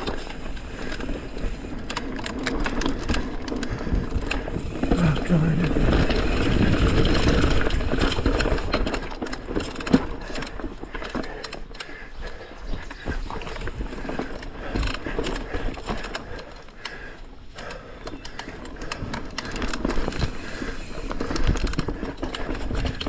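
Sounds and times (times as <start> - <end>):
bike rattling and clicking: 0.0 - 23.0
bike tyres rumbling over dirt: 0.0 - 23.0.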